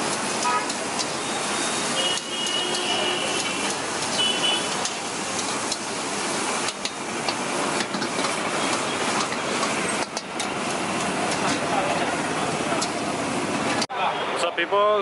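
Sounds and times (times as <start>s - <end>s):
steady traffic noise: 0.0s - 15.0s.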